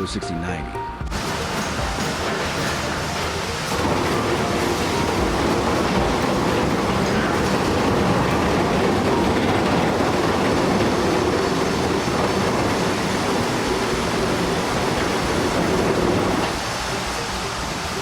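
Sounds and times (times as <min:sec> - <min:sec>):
heavy machinery rumbling: 0:01.0 - 0:18.0.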